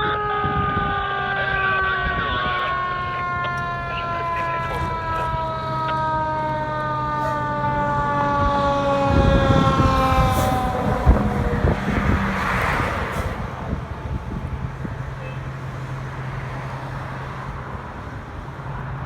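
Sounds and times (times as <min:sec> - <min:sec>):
fire truck warning tone: 0:00.0 - 0:15.6
heavy engine rumble: 0:00.0 - 0:16.4.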